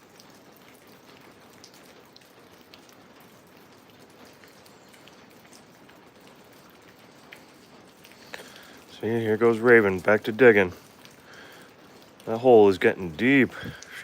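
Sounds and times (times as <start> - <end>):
raindrops ticking: 0.0 - 14.0
steady rain hiss: 0.0 - 14.0.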